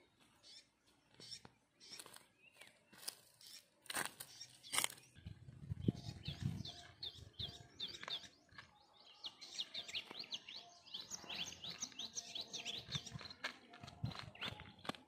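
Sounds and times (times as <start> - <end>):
footsteps on dry ground: 0.0 - 15.0
small birds chirping: 0.0 - 15.0.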